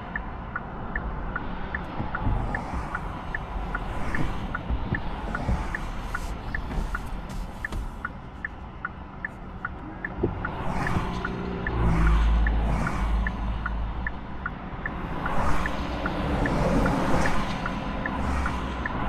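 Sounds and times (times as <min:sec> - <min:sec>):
road and tyre noise: 0:00.0 - 0:19.0
turn signal ticking: 0:00.0 - 0:19.0.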